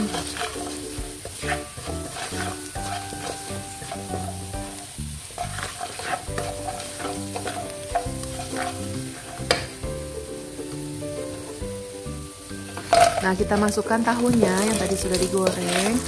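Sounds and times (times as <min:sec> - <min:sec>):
spatula scraping pan: 0:00.0 - 0:09.8, 0:12.7 - 0:16.0
garlic sizzling in oil: 0:00.0 - 0:16.0.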